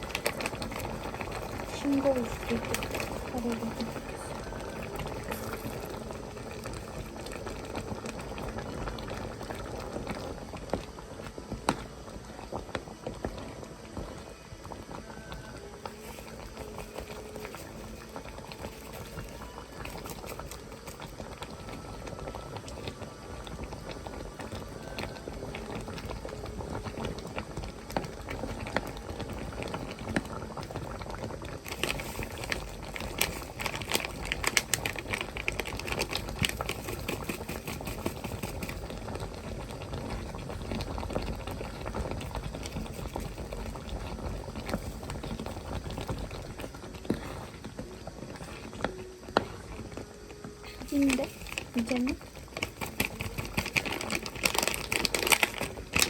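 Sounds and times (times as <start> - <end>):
curry bubbling in a pot: 0.0 - 56.0.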